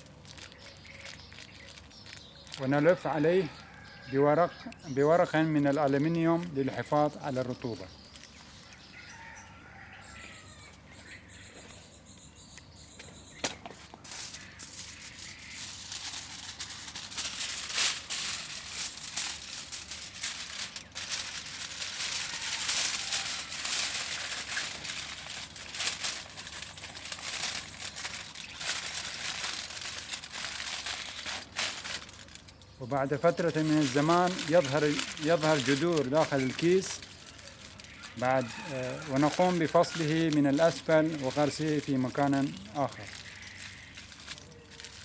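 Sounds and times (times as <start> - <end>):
aluminium foil crinkling: 0.0 - 10.2, 14.0 - 45.0.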